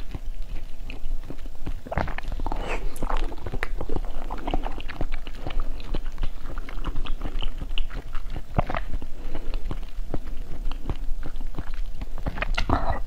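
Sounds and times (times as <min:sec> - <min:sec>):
crisp crackling chewing: 0:00.0 - 0:13.0.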